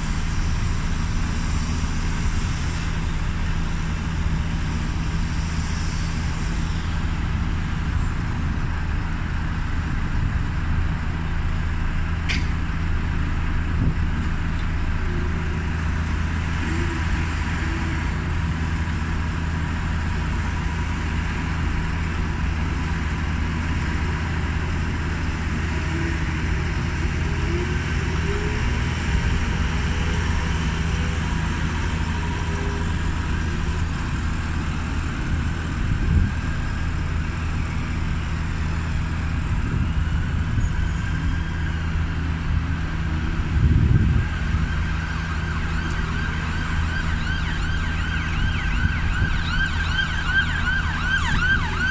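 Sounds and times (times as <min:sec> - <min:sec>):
hiss of passing traffic: 0:00.0 - 0:51.9
low drone of vehicle engines: 0:00.0 - 0:51.9.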